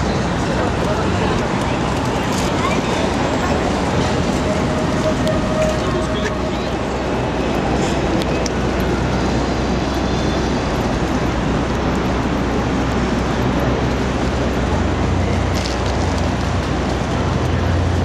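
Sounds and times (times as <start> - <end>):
passing vehicles rumbling: 0.0 - 18.0.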